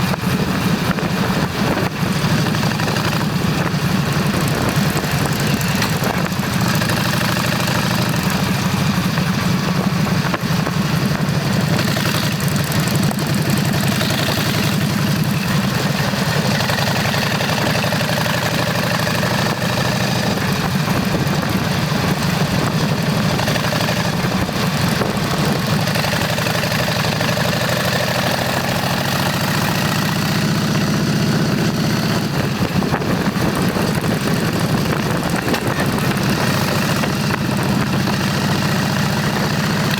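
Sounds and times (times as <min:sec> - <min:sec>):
wind noise: 0:00.0 - 0:27.6, 0:29.0 - 0:39.9
motorcycle engine running: 0:00.0 - 0:39.9.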